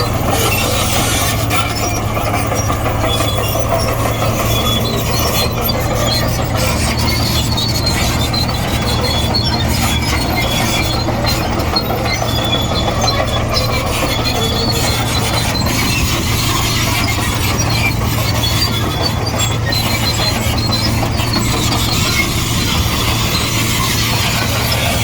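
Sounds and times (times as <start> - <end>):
bulldozer diesel engine: 0.0 - 25.0
steel tracks squeaking: 0.0 - 25.0.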